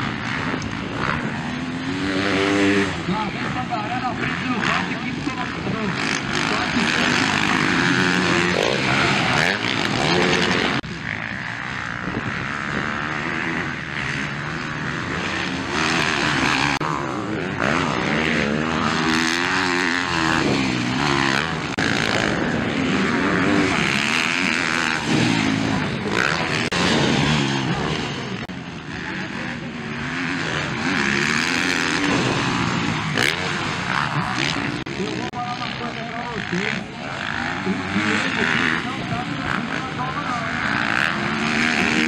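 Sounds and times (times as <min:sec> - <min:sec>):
motocross engines revving: 0:00.0 - 0:42.0.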